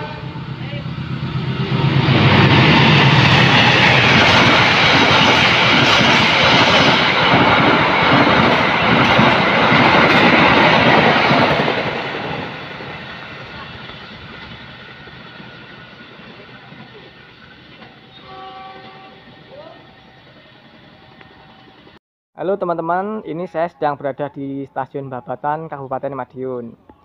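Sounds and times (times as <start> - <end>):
diesel locomotive engine: 0.0 - 22.0.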